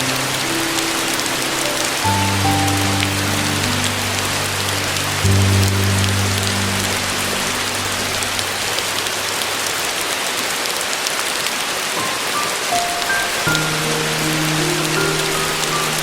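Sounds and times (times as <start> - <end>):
soft piano music: 0.0 - 10.2, 11.7 - 16.0
steady rain: 0.0 - 16.0.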